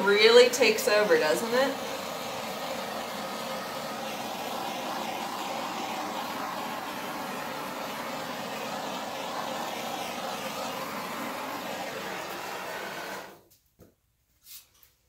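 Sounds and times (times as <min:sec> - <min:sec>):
hair dryer blowing: 0:00.0 - 0:13.4.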